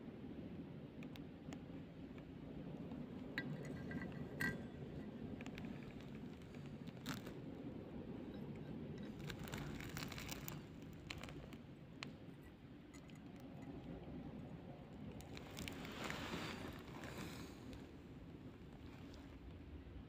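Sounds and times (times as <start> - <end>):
steady low hum: 0.0 - 20.0
crinkled plastic clicks and crackles: 0.9 - 19.7.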